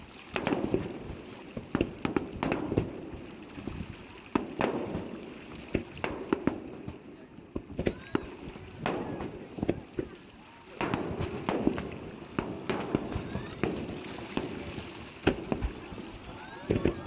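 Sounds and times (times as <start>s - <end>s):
fireworks bangs echoing: 0.0s - 17.0s.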